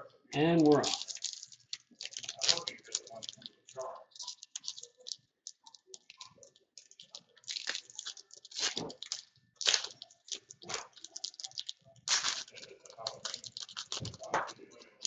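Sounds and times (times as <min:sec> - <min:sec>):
wrapper tearing and crinkling: 0:00.6 - 0:15.0.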